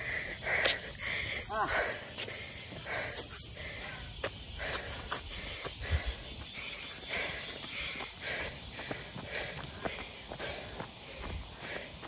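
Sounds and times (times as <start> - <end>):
footsteps on asphalt: 0.0 - 12.0
high insect drone: 0.0 - 12.0.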